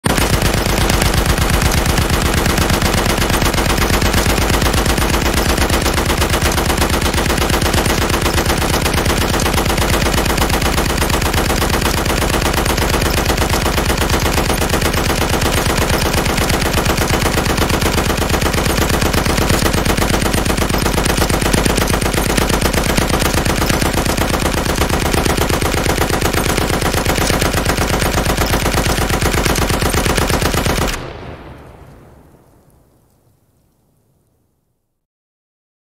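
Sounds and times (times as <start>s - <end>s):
heavy machine gun firing: 0.0s - 31.8s.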